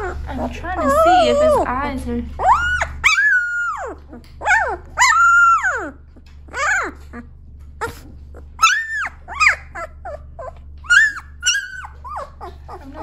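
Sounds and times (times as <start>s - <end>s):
puppy whining: 0.0s - 13.0s.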